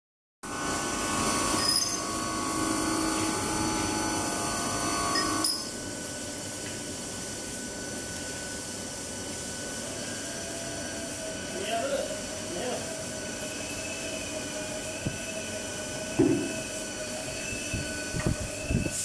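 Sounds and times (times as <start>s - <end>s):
machinery hum and whine: 0.5s - 19.0s.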